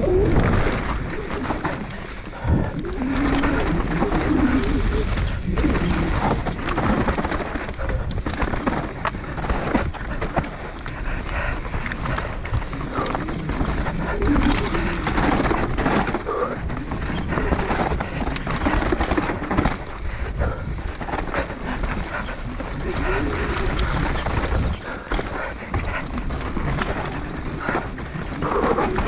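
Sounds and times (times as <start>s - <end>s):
bike rattling over roots and rocks: 0.0s - 29.0s
tyres on dirt: 0.0s - 29.0s
wind rumbling on microphone: 0.0s - 29.0s
rider breathing hard: 0.3s - 29.0s.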